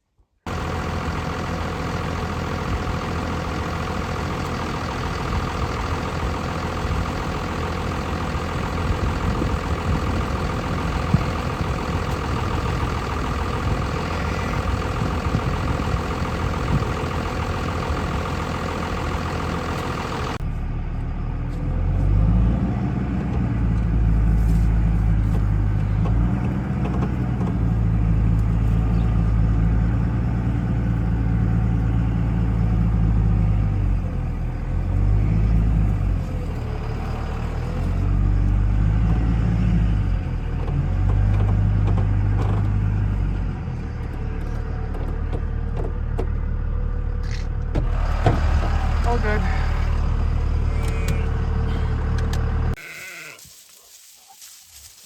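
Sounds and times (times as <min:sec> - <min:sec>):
vehicle engine running: 0:00.5 - 0:52.8
road noise: 0:00.5 - 0:55.0.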